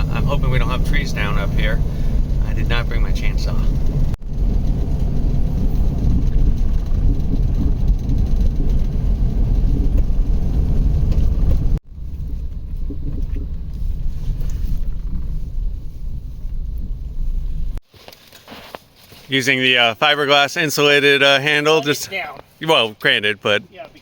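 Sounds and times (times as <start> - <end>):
vehicle engine and road rumble: 0.0 - 19.4.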